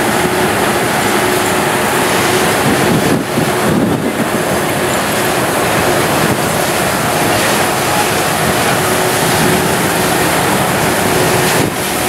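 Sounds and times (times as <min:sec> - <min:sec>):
locomotives rolling past: 0:00.0 - 0:12.0.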